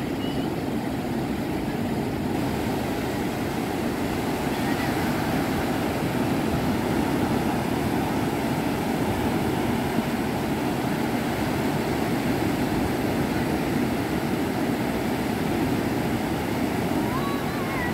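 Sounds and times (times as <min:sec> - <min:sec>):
surf breaking on beach: 0:00.0 - 0:17.9.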